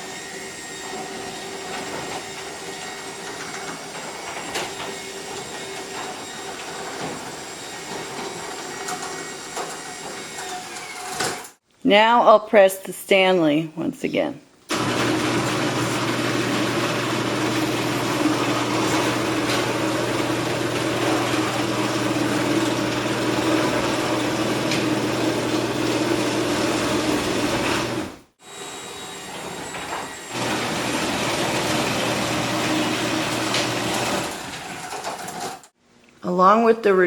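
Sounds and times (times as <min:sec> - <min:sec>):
garage door opener rumbling: 0:00.8 - 0:11.6, 0:14.7 - 0:28.3, 0:29.1 - 0:35.7.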